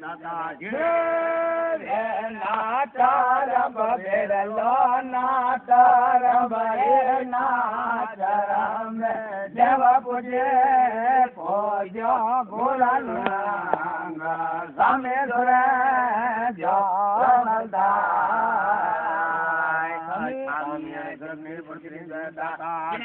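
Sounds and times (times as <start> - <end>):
man singing a chant: 0.0 - 23.0.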